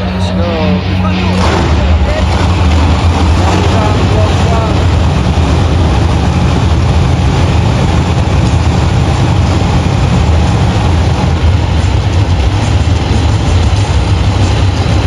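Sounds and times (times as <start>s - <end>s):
truck engine running loudly: 0.0s - 15.0s.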